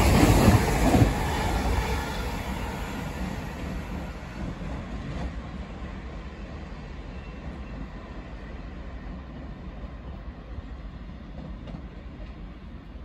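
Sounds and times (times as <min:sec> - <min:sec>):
high-speed train running: 0:00.0 - 0:13.0.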